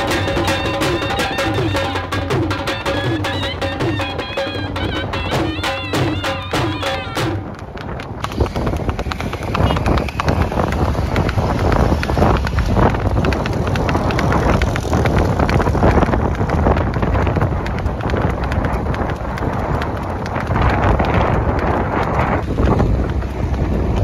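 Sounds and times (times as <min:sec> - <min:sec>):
horse hooves clip-clopping on asphalt: 0:00.0 - 0:24.0
wind rumbling on microphone: 0:04.6 - 0:24.0.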